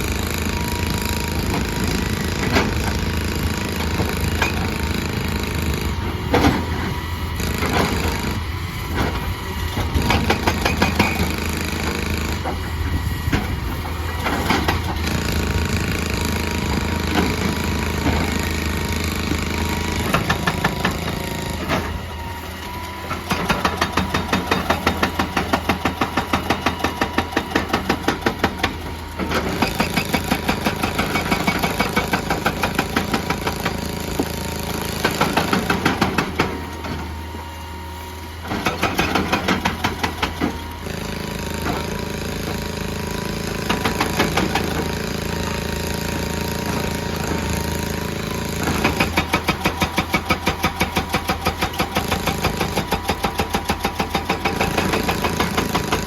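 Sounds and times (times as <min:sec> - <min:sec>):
hydraulic rock breaker hammering: 0:00.0 - 0:37.5, 0:38.3 - 0:56.0
excavator diesel engine running: 0:00.0 - 0:56.0.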